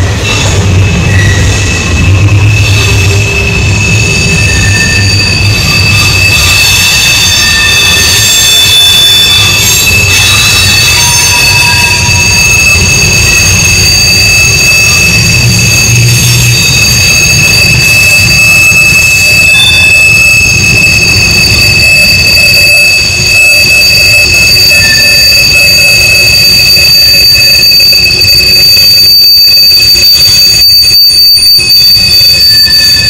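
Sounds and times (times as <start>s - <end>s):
train wheels squealing: 0.0s - 33.0s.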